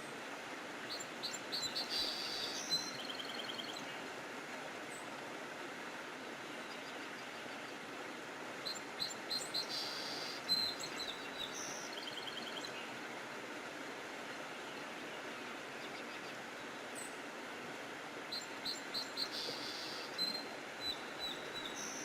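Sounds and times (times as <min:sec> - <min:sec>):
songbirds chirping: 0:00.0 - 0:22.0
steady outdoor hiss: 0:00.0 - 0:22.0.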